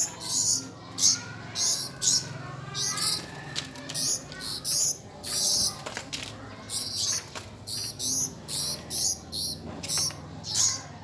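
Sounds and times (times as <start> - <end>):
songbirds harsh raspy calls: 0.0 - 5.9, 6.5 - 11.0.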